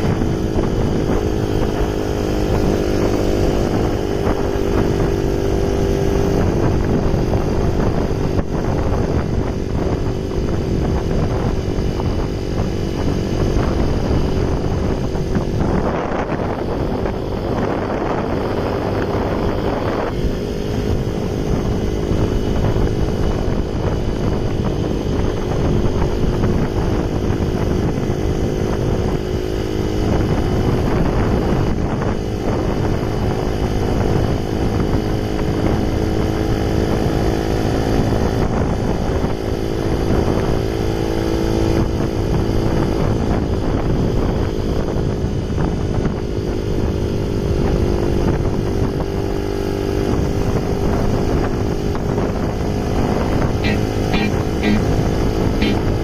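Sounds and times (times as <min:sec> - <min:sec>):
small motorcycle engine running: 0:00.0 - 0:56.0
wind rumbling on microphone: 0:00.0 - 0:56.0.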